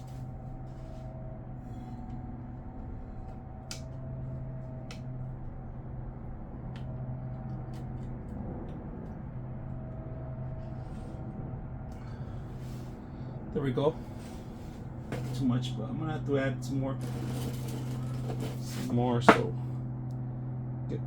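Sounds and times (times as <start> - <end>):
low electric hum: 0.0 - 21.0.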